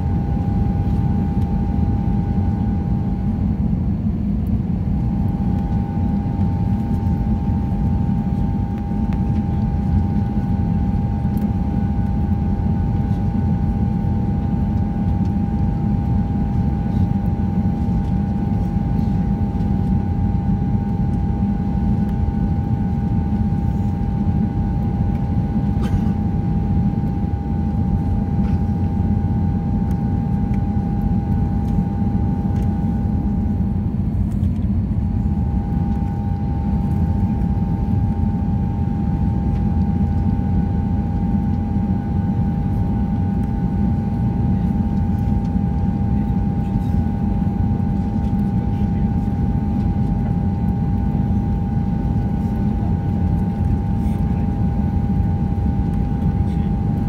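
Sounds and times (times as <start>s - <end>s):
steady cabin hum: 0.0s - 57.0s.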